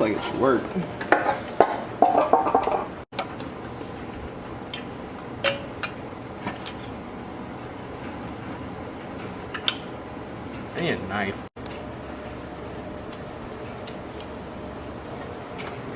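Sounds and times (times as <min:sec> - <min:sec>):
workshop background noise: 0:00.0 - 0:15.9.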